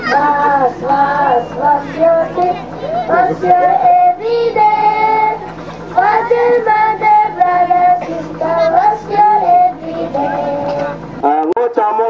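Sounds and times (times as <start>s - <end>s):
children singing together: 0.0s - 11.1s.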